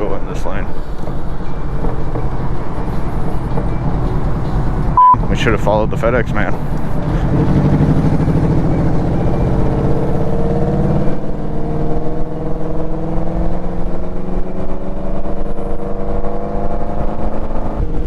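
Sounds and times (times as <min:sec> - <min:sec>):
motorcycle engine accelerating: 0:00.8 - 0:18.0.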